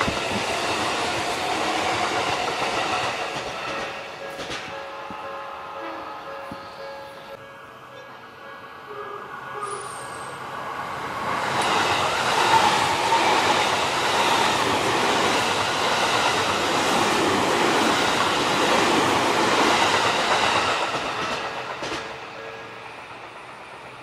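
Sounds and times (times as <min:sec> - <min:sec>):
train wheels rushing on rail: 0:00.0 - 0:07.4, 0:09.4 - 0:24.0.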